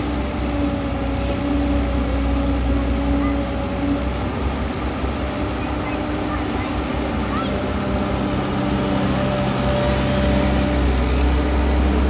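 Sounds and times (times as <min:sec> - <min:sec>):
drilling rig engine running: 0:00.0 - 0:12.0.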